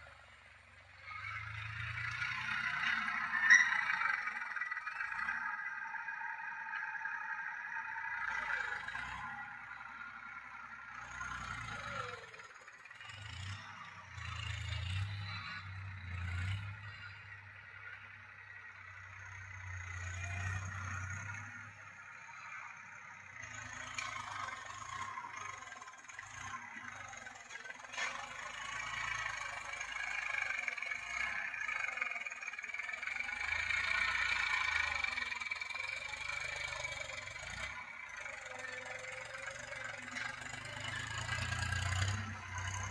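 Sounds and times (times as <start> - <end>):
tractor diesel engine rumbling: 0.0 - 42.9.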